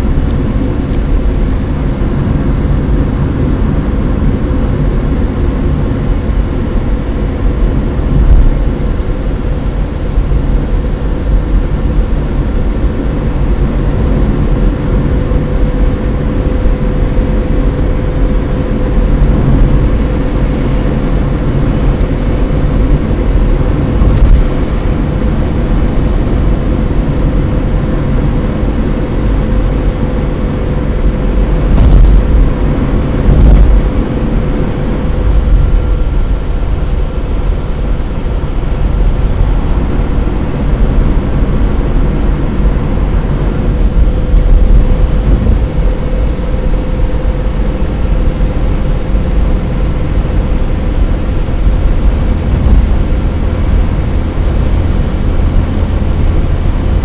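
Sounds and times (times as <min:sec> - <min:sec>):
tyre and engine rumble: 0:00.0 - 0:57.0.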